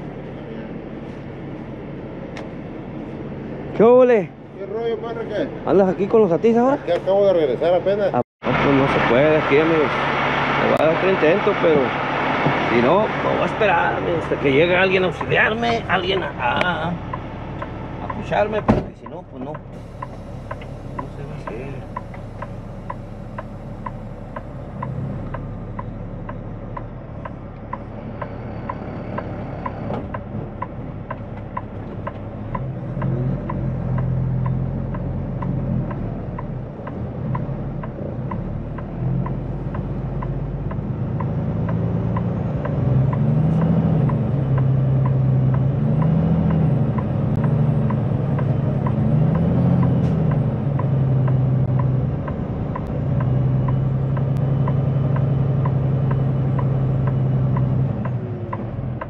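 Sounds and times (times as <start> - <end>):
diesel truck engine revving: 7.1 - 59.0.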